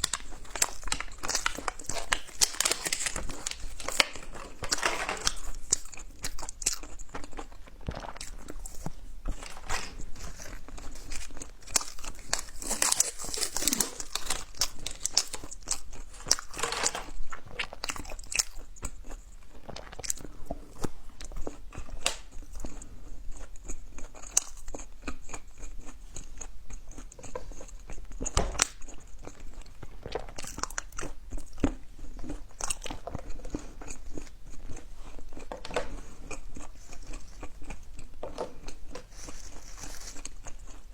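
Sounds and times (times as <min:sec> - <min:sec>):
crunchy bites and chewing: 0:00.0 - 0:16.6, 0:17.3 - 0:40.9.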